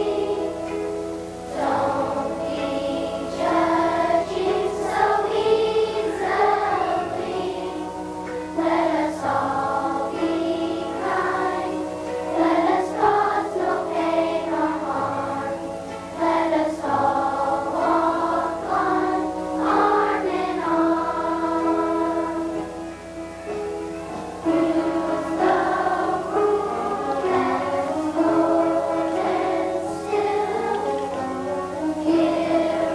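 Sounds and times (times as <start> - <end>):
children's choir singing: 0.0 - 32.9.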